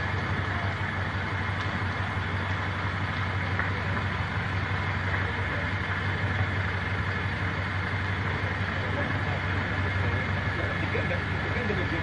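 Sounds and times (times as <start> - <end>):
vehicle engines humming: 0.0 - 12.0.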